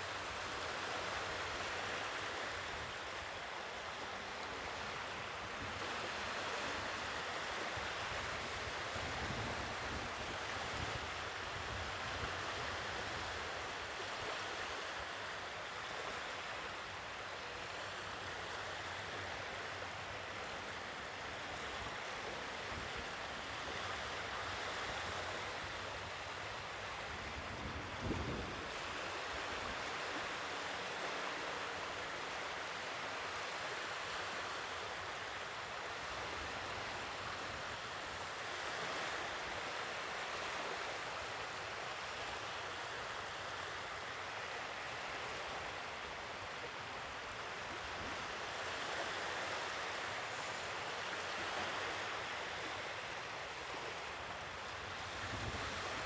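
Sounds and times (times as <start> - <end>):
sea waves washing ashore: 0.0 - 56.0.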